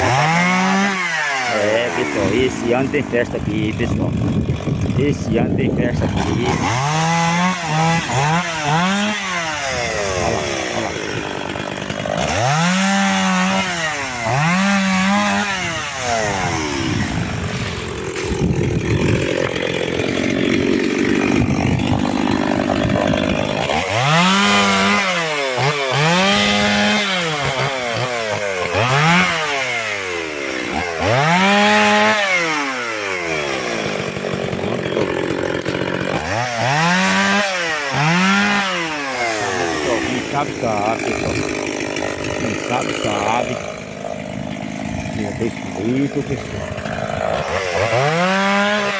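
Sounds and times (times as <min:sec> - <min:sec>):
chainsaw cutting logs: 0:00.0 - 0:48.9.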